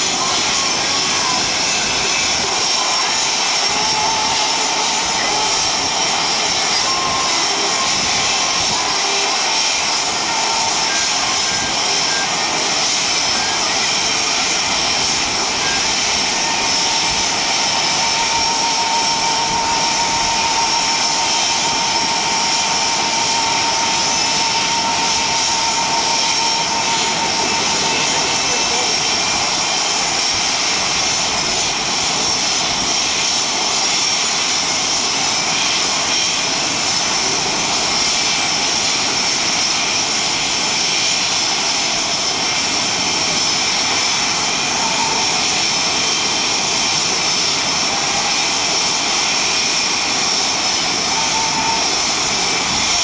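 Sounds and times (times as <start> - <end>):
jet engines idling whine: 0.0 - 53.0.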